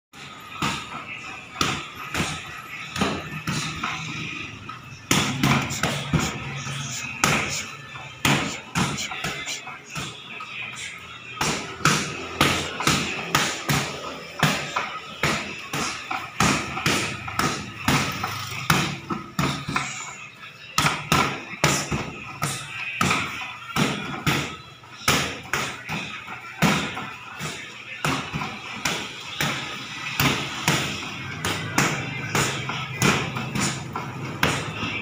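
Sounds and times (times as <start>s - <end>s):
boxing gloves hitting punching bag: 0.2s - 4.0s, 4.8s - 10.2s, 11.4s - 19.9s, 20.8s - 35.0s.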